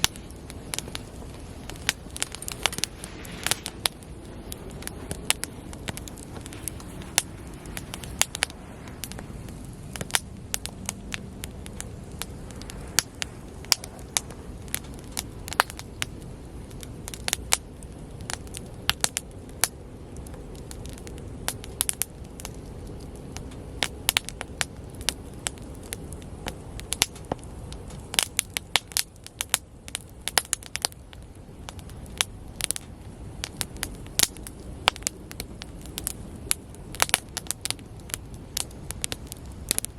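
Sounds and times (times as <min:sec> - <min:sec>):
bonfire crackling and popping: 0:00.0 - 0:39.9
low rumble of fire: 0:00.0 - 0:39.9.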